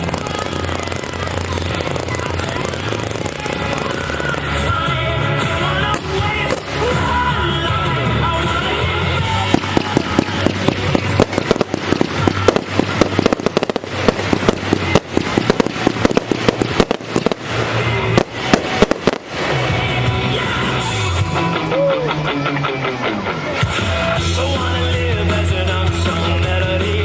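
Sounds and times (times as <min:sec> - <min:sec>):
fireworks bangs and crackles: 0:00.0 - 0:22.5
music: 0:00.0 - 0:27.0.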